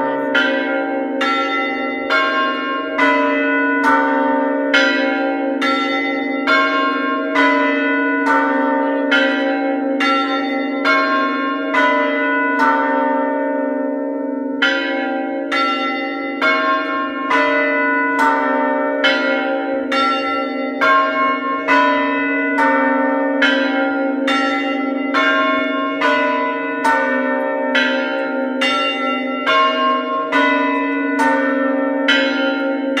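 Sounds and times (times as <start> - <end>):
church bells ringing: 0.0 - 33.0
hum of large bells: 0.0 - 33.0.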